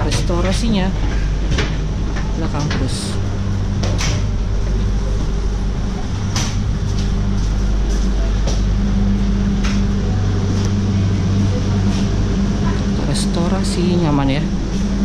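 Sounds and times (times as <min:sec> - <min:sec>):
train carriage machinery hum: 0:00.0 - 0:15.0.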